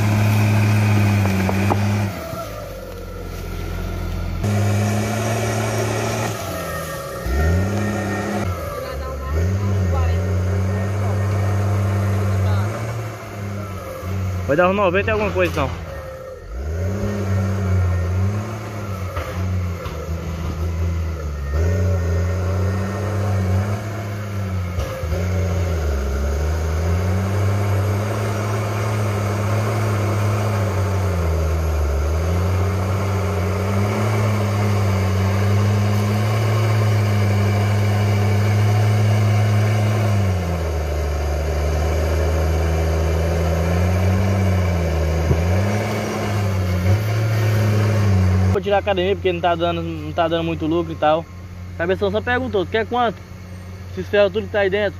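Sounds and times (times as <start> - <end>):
blade pushing earth: 0.0 - 48.8
diesel engine running hard: 0.0 - 54.9.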